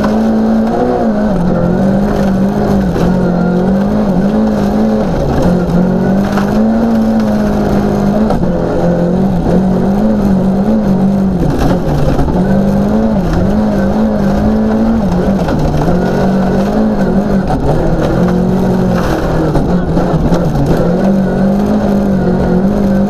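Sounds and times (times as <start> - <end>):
rally car engine revving: 0.0 - 23.0
tyres on gravel roar: 0.0 - 23.0.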